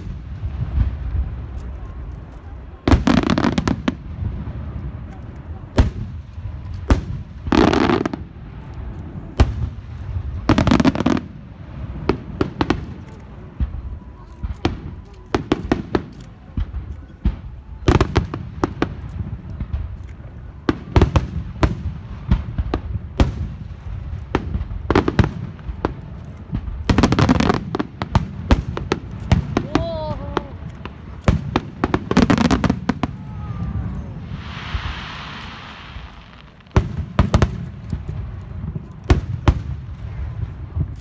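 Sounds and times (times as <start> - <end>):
fireworks bangs: 0.0 - 41.0
noisy fireworks bursts: 0.0 - 41.0.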